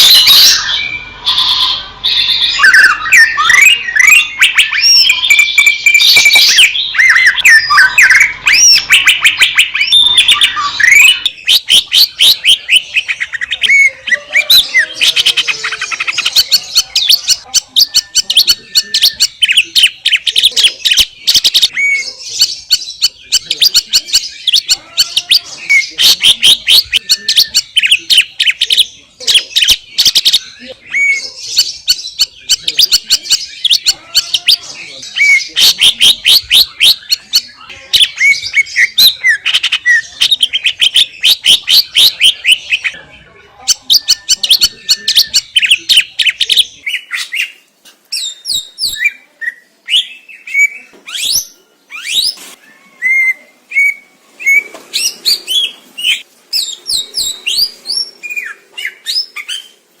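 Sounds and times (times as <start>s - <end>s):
bird singing: 0.0s - 60.0s.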